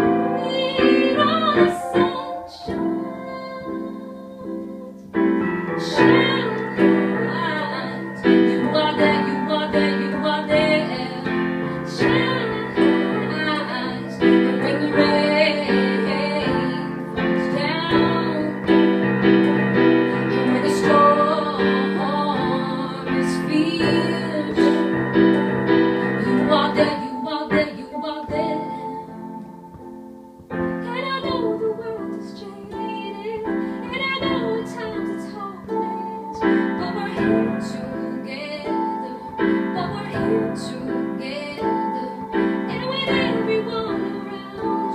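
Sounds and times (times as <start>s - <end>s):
piano chords: 0.0s - 44.9s
woman singing: 0.0s - 44.9s.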